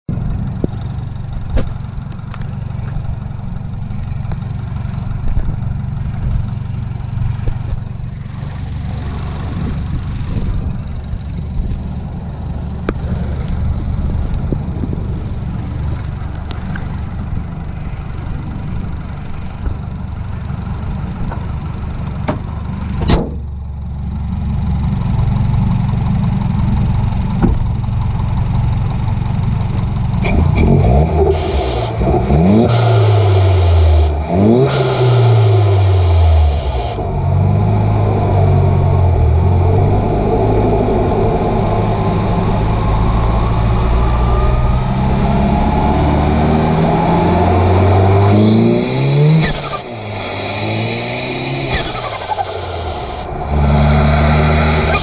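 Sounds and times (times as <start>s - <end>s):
car engine idling: 0.1s - 55.0s.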